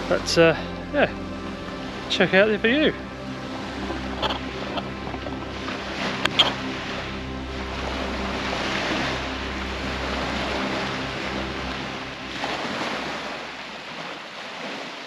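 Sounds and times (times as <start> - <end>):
low motor hum: 0.0 - 13.9
sea waves washing in: 0.0 - 15.0.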